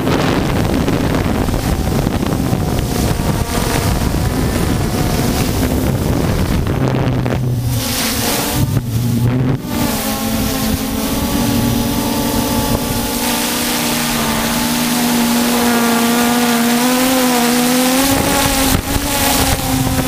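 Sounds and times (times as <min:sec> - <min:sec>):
drone propellers humming: 0:00.0 - 0:20.0
wind rushing over microphone: 0:00.0 - 0:20.0.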